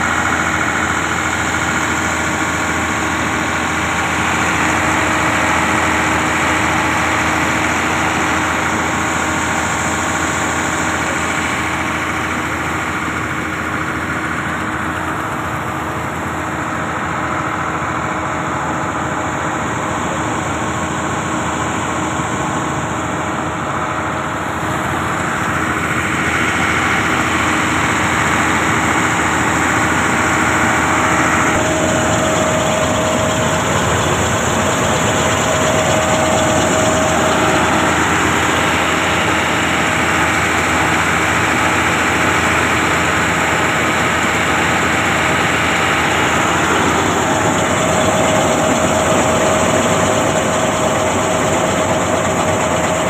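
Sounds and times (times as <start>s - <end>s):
harvester machinery drone: 0.0s - 53.0s.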